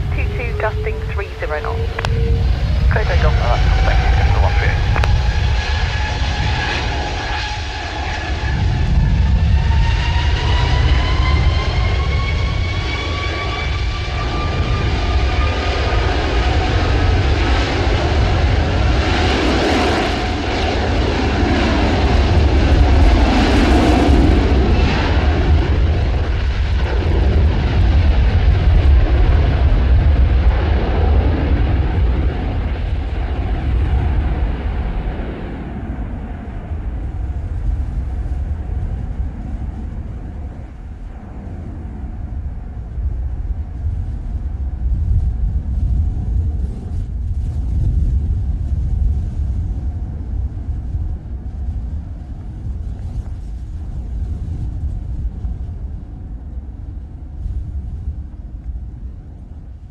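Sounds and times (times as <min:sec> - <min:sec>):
jet airliner taking off: 0:00.0 - 0:59.8
wind buffeting microphone: 0:00.0 - 0:59.9.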